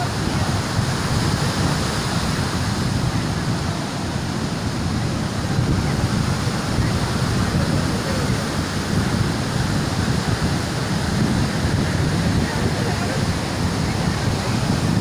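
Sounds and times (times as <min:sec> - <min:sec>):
sea surf washing: 0:00.0 - 0:15.0
wind buffeting microphone: 0:00.0 - 0:15.0.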